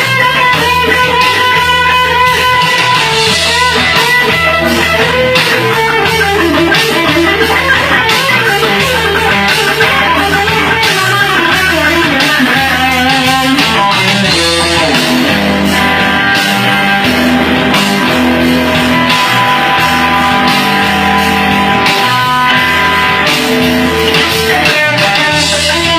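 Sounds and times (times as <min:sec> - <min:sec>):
bass: 0:00.0 - 0:25.9
electric guitar solo: 0:00.0 - 0:25.9
steady drum beat: 0:00.0 - 0:25.9.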